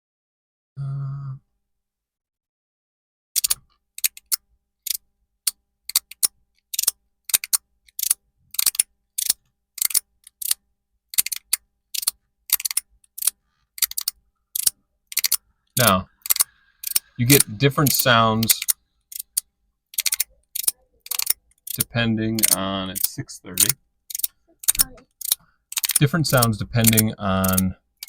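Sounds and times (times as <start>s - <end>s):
fidget slider clicking: 3.4s - 28.0s.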